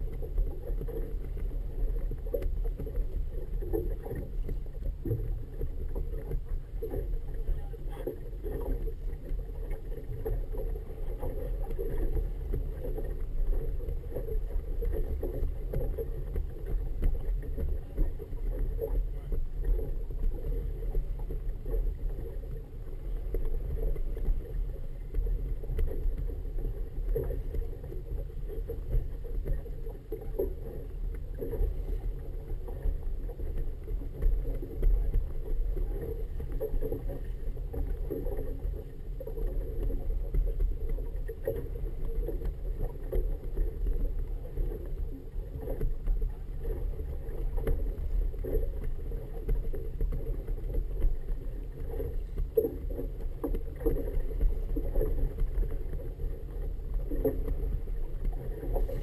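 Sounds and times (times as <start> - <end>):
water slapping boat hull: 0.0 - 59.0
wind rumble on camera: 0.0 - 59.0.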